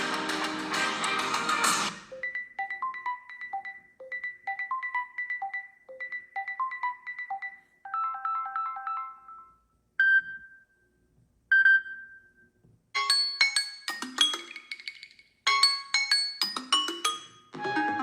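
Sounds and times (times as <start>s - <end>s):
synthesized ringtone melody: 0.0s - 10.5s, 13.0s - 18.0s.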